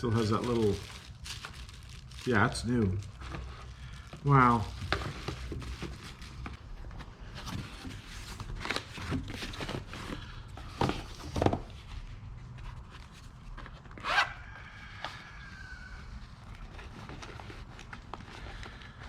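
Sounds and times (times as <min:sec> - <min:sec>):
packaging rustling and scraping: 0:00.0 - 0:19.0.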